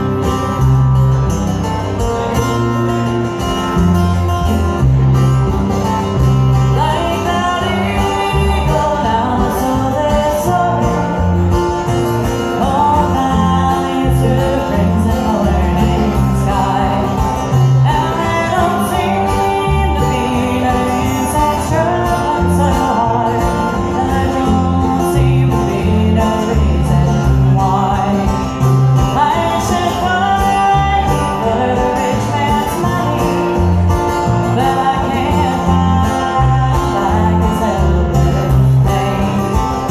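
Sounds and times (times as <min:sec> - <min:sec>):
plucked banjo: 0:00.0 - 0:39.9
strummed acoustic guitar: 0:00.0 - 0:39.9
upright bass: 0:00.0 - 0:39.9
woman singing: 0:06.7 - 0:11.4, 0:12.5 - 0:39.9.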